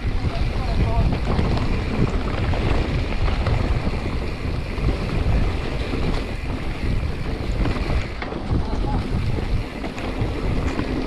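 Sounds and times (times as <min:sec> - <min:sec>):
bike rattling: 0:00.0 - 0:11.0
bike tyre rumble: 0:00.0 - 0:11.0
wind on microphone: 0:00.0 - 0:11.0.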